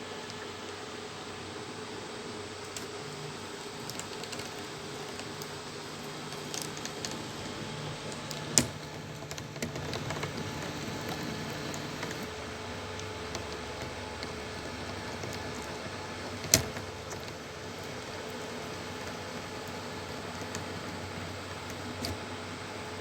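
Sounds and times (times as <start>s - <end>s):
small printer clicks: 2.6s - 23.0s
stepper motors humming: 2.6s - 23.0s.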